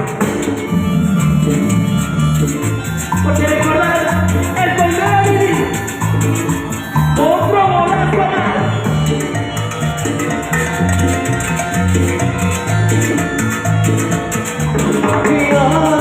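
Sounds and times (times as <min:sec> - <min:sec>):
latin dance band music: 0:00.0 - 0:16.0.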